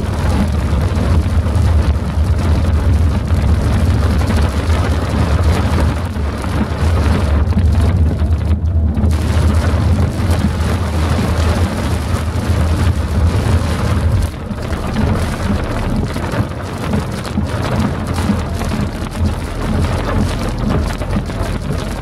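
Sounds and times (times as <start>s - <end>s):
deep low rumble: 0.0s - 22.0s
heavy rain on windscreen: 0.0s - 22.0s.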